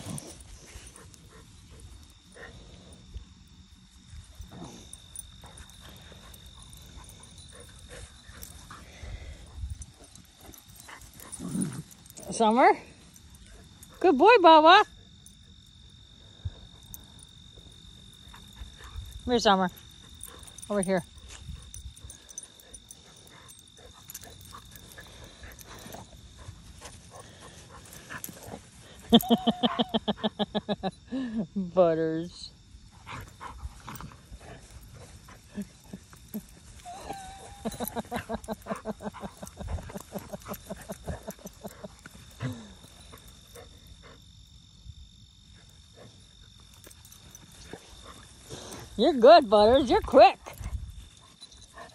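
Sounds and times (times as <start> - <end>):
dogs play-growling: 0.0 - 14.0, 16.5 - 30.2, 32.9 - 44.5, 45.5 - 51.9
high-pitched insect drone: 0.0 - 51.9.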